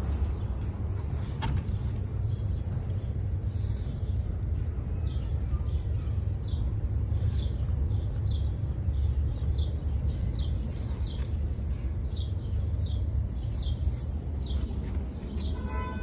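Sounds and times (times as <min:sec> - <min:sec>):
steady low rumble: 0:00.0 - 0:15.6.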